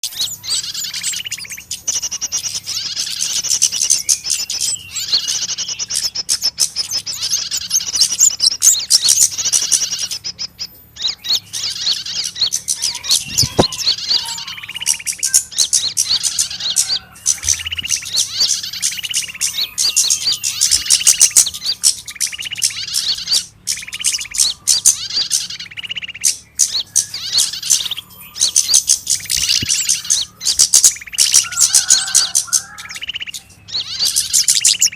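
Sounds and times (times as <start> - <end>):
lower bird notes: 0.0 - 34.9
small birds chirping: 0.0 - 34.9.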